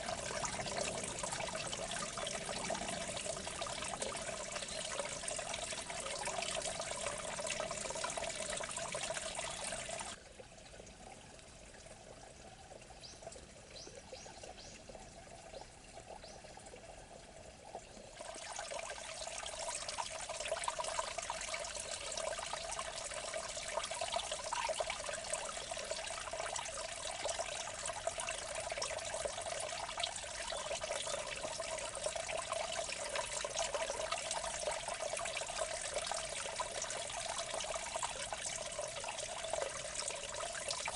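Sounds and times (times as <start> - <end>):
water trickling in a ditch: 0.0 - 40.9.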